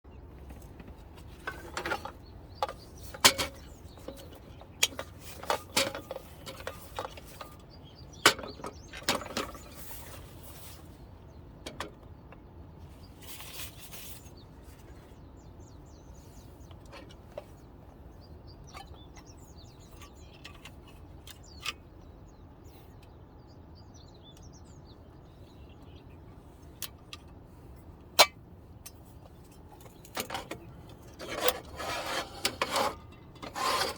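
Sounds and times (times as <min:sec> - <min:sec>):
faint birds chirping: 0:00.1 - 0:33.9.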